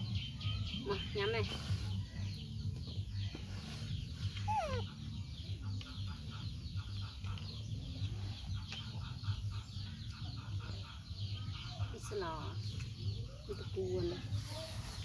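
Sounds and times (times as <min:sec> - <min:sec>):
chickens clucking: 0:02.2 - 0:15.0.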